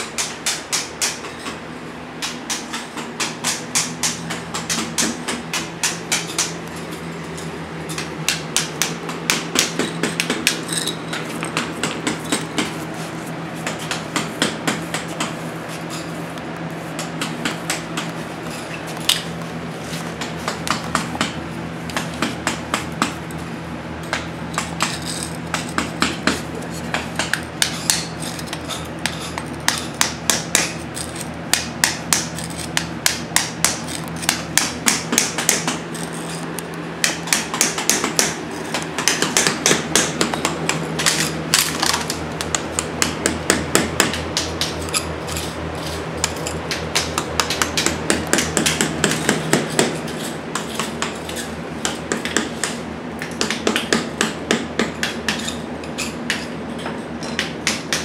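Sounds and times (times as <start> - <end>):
hammer striking chisel: 0.0 - 1.6, 2.2 - 6.7, 7.9 - 12.8, 13.6 - 16.1, 17.0 - 19.3, 20.0 - 23.2, 24.0 - 58.0
steady low hum: 0.0 - 58.0.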